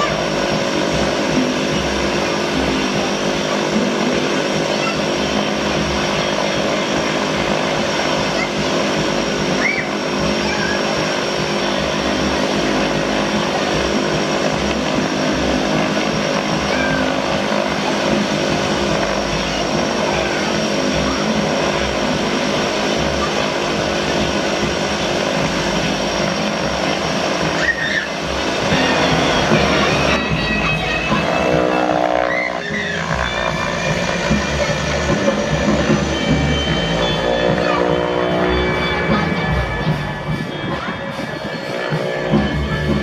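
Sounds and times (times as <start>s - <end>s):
high turbine whine: 0.0s - 43.0s
propeller drone: 0.0s - 43.0s.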